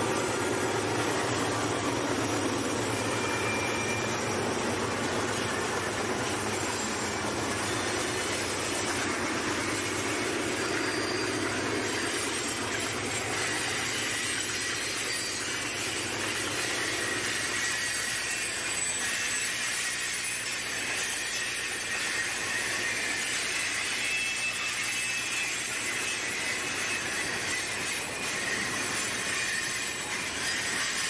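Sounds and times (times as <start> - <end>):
freight train wheels on rails: 0.0 - 19.9, 25.5 - 31.0.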